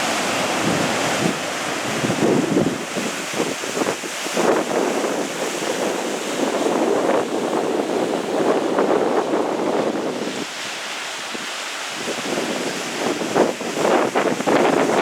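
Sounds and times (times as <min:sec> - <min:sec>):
waves washing: 0:00.0 - 0:15.0
wind buffeting microphone: 0:00.0 - 0:15.0.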